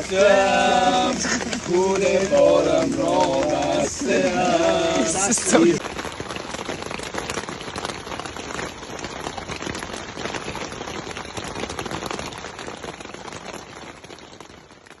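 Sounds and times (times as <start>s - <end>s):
rain pattering on a surface: 0.0s - 15.0s.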